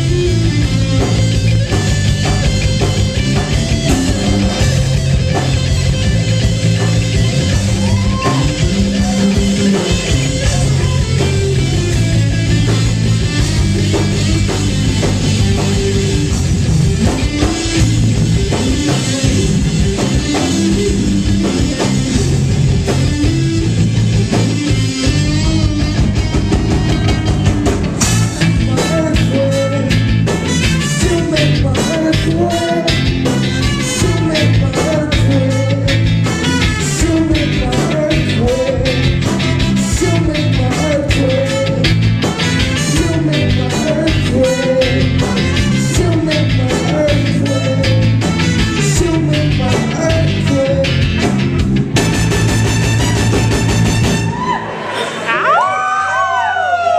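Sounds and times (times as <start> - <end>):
live rock reggae band: 0.0 - 56.9.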